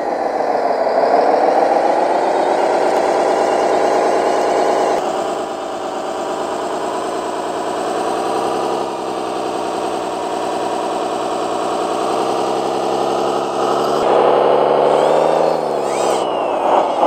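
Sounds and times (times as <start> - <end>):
toy bulldozer hum-whine: 0.0 - 17.0.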